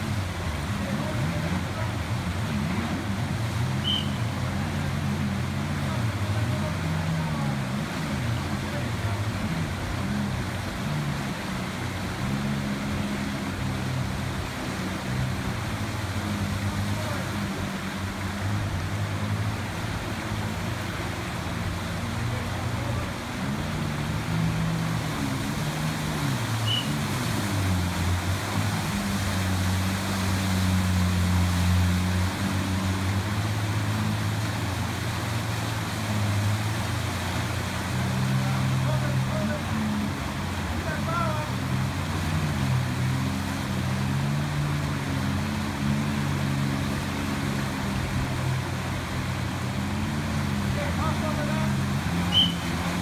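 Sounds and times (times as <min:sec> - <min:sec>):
rushing white water: 0:00.0 - 0:53.0
watercraft engine revving: 0:00.0 - 0:53.0.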